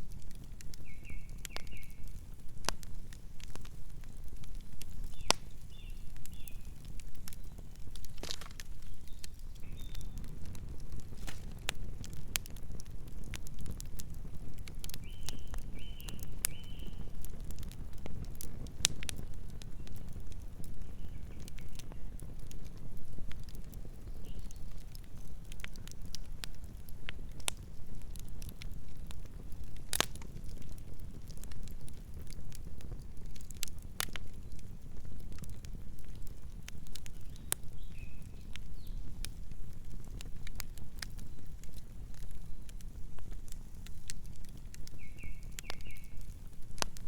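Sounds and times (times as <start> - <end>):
campfire wood crackling: 0.0 - 47.0
low fire rumble: 0.0 - 47.0.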